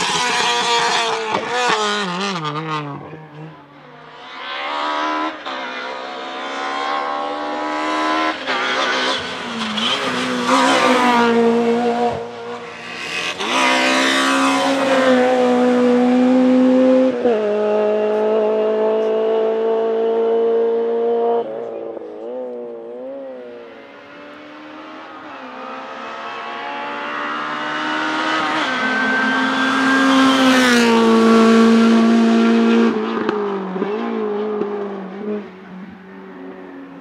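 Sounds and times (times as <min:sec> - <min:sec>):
car revving up through gears: 0:00.0 - 0:03.6, 0:04.3 - 0:35.5
racing car engines accelerating: 0:00.0 - 0:37.0.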